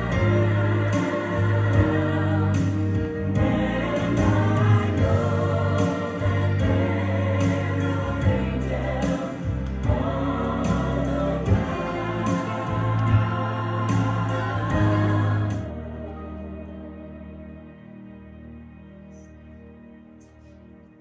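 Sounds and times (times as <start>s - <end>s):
people singing gospel: 0.0s - 17.6s
bass line: 0.0s - 19.0s.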